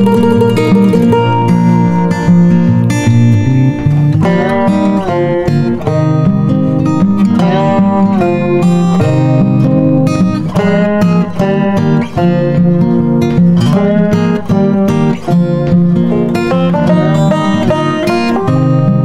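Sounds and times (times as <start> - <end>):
instrumental guitar music: 0.0 - 19.0.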